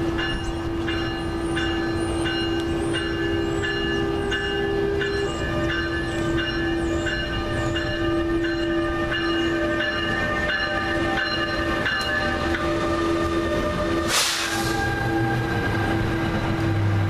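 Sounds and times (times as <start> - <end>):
locomotive bell ringing: 0.0 - 14.1
train rumbling: 0.0 - 17.0.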